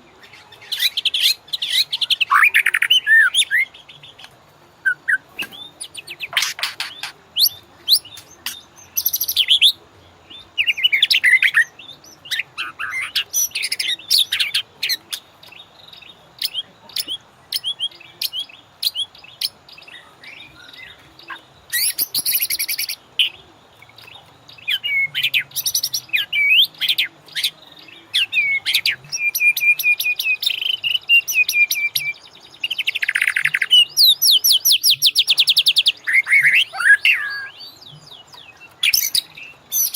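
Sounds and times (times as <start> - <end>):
bird singing whistles and trills: 0.1 - 39.9.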